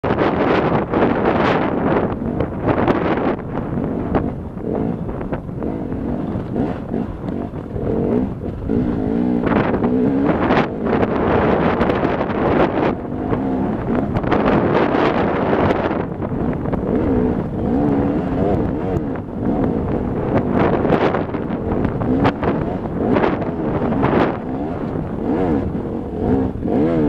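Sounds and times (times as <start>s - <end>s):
motorcycle engine revving: 0.0s - 27.0s
wind noise on microphone: 0.0s - 27.0s.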